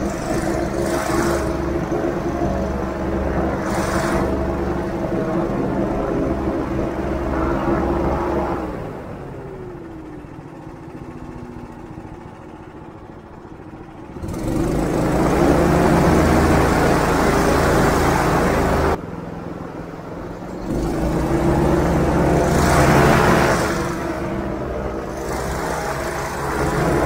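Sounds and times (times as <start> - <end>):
airboat engine and propeller: 0.0 - 27.0.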